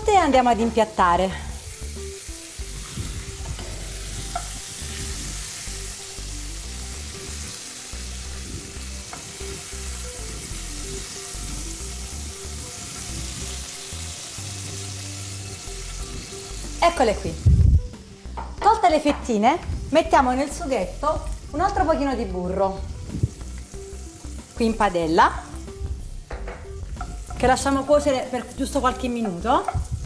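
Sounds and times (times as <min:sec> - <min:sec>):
meat sizzling in a frying pan: 0:00.0 - 0:30.0.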